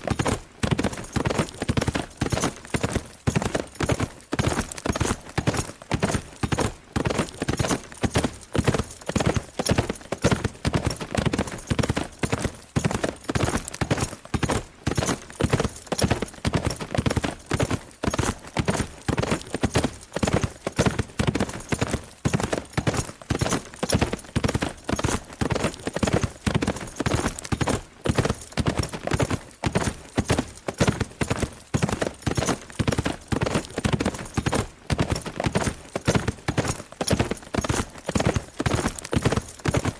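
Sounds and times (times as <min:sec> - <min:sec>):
horse galloping: 0:00.0 - 0:39.9.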